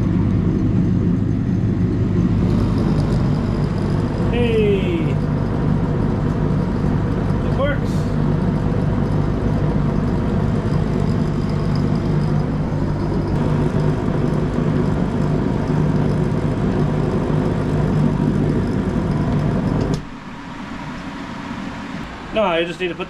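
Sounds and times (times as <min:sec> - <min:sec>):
space heater droning: 0:00.0 - 0:23.0.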